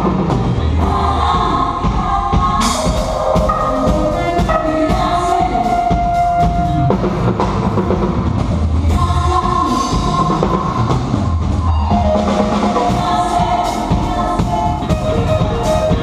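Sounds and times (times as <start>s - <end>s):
drum kit playing: 0.0s - 16.0s.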